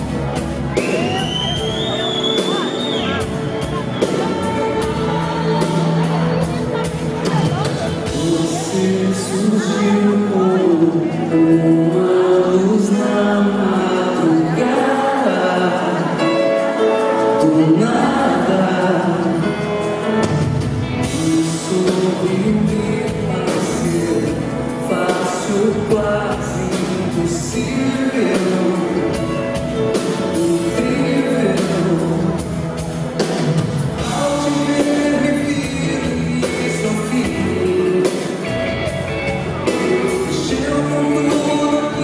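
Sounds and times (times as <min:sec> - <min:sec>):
drums: 0:00.0 - 0:42.0
live band playing: 0:00.0 - 0:42.0
person singing: 0:00.0 - 0:42.0.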